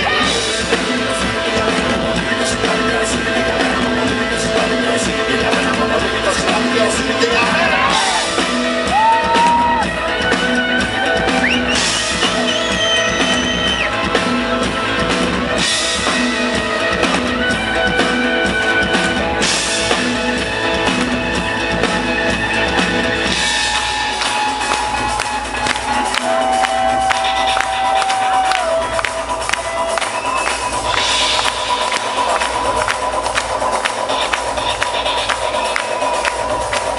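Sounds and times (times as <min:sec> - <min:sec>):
live rock band playing: 0:00.0 - 0:36.9.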